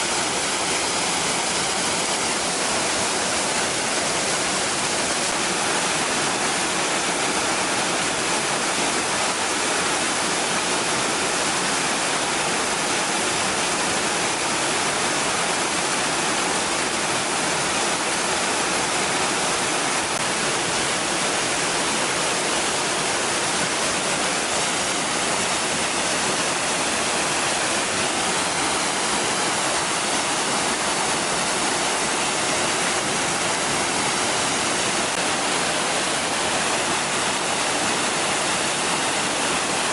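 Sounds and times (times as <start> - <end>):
waterfall crashing: 0.0 - 39.9.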